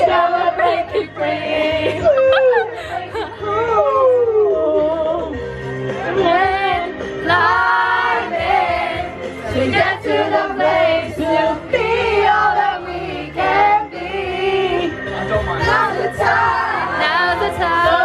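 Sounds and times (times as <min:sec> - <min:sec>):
group singing karaoke: 0:00.0 - 0:18.0
karaoke backing track: 0:00.0 - 0:18.0.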